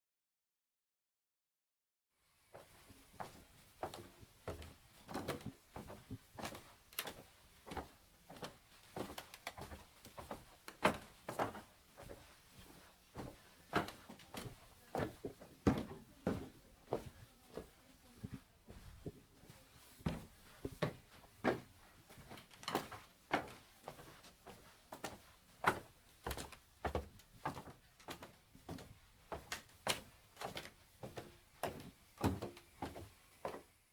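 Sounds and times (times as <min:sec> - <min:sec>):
footsteps on wooden floor: 0:02.6 - 0:33.6.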